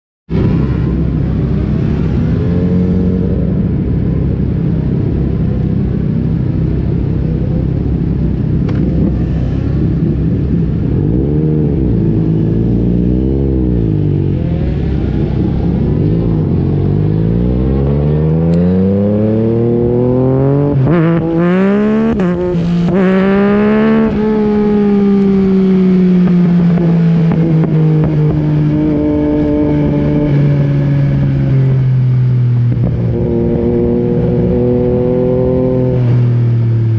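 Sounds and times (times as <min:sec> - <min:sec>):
motorcycle engine revving: 0:00.3 - 0:36.9.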